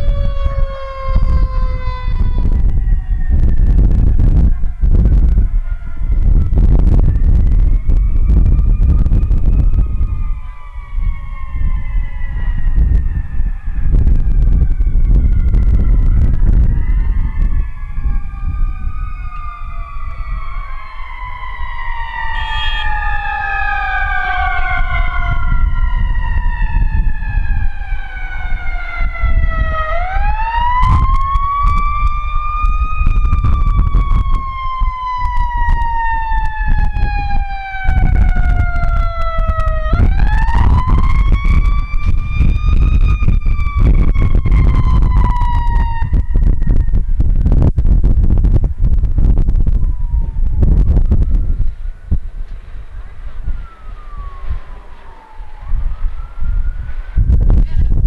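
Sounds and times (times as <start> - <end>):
fire truck sirens wailing: 0.0 - 58.0.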